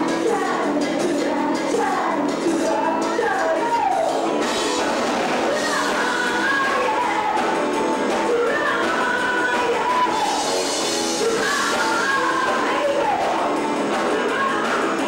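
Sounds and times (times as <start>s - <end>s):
drum kit: 0.0s - 15.0s
electric guitars: 0.0s - 15.0s
woman singing into microphone: 0.0s - 15.0s.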